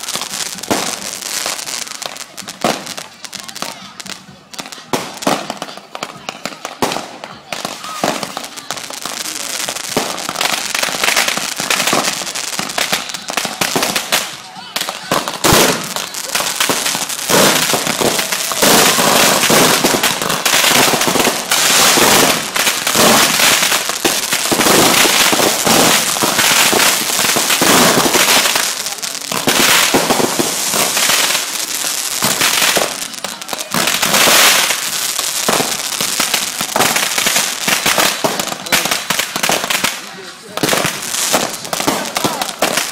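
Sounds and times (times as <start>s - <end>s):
fireworks popping and crackling: 0.0s - 42.9s.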